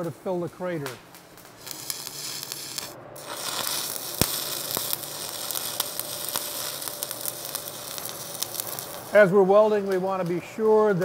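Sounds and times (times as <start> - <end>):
welding arc crackling and popping: 0.0 - 11.0.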